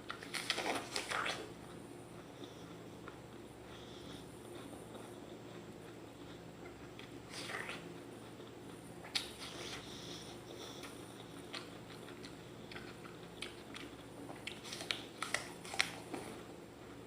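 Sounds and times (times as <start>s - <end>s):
apple being bitten and chewed: 0.0s - 3.5s, 4.4s - 10.0s, 10.6s - 17.0s.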